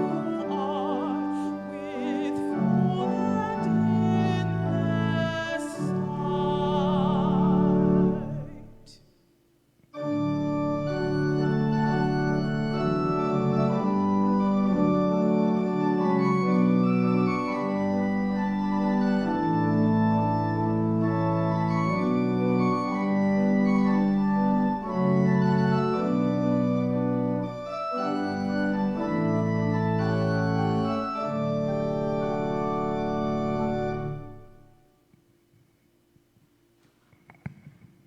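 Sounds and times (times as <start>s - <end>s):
organ playing sustained chords: 0.0s - 9.0s, 10.0s - 34.8s.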